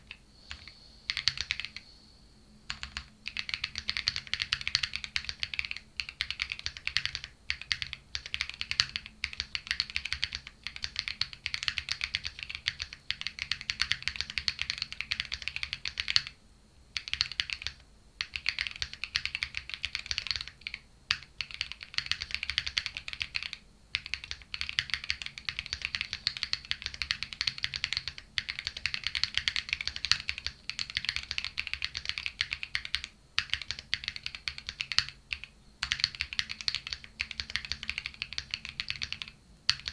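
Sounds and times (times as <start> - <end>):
mechanical keyboard typing: 0.0 - 1.8, 2.7 - 16.4, 17.0 - 39.9.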